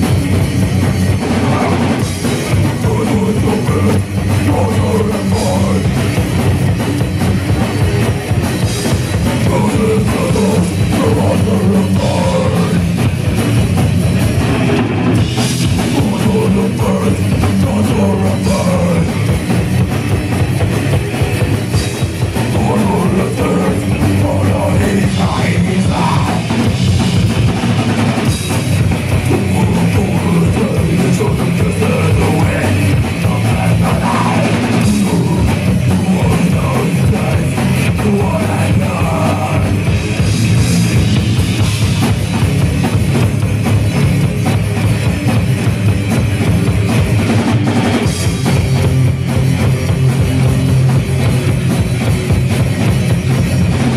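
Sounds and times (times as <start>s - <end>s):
bass drum: 0.0s - 53.9s
distorted electric guitars: 0.0s - 53.9s
metal band playing: 0.0s - 53.9s.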